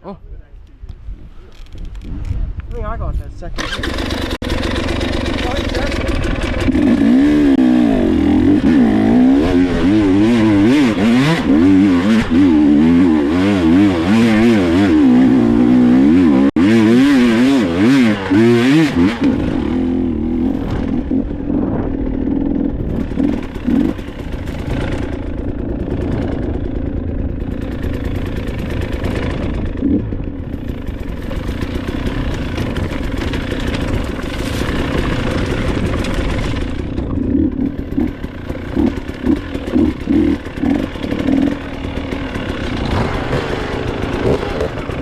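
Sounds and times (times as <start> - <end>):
dirt bike engine running: 3.5 - 45.0.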